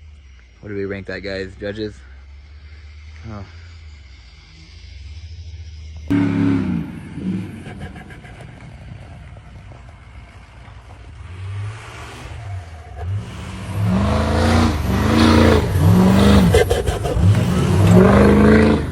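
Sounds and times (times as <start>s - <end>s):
diesel truck engine revving: 0.0s - 18.9s.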